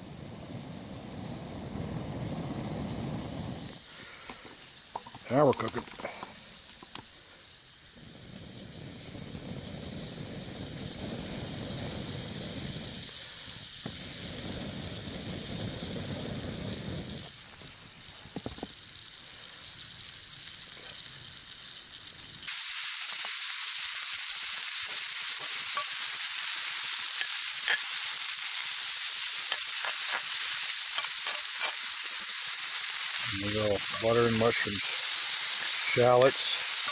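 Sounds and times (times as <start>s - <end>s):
butter sizzling in a skillet: 0.0s - 36.9s
mushrooms frying in butter: 0.0s - 36.9s.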